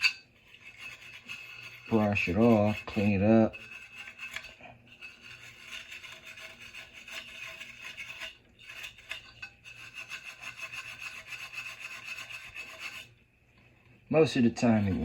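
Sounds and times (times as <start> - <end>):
steel wool scrubbing metal: 0.0 - 13.2.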